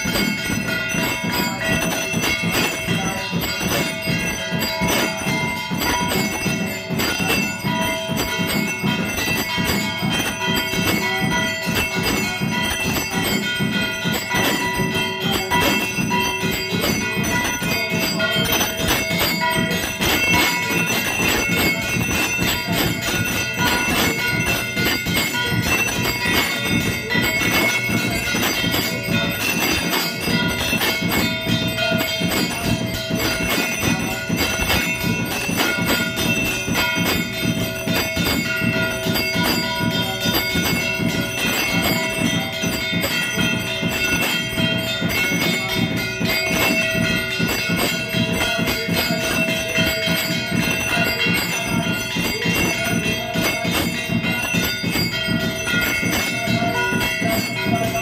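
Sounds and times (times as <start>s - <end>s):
temple bells ringing rapidly: 0.0s - 58.0s.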